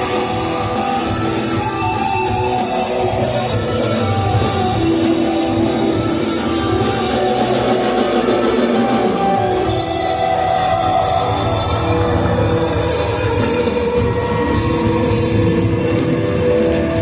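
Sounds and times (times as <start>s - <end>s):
distorted electric guitar: 0.0s - 17.0s
drum kit: 0.0s - 17.0s.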